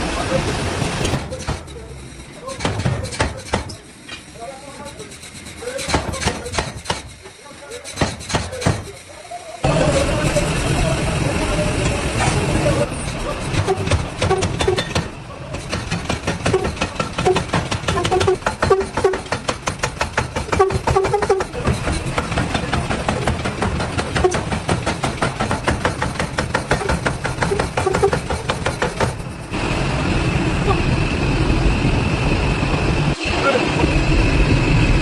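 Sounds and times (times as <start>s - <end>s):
machinery rattling: 0.0s - 29.8s.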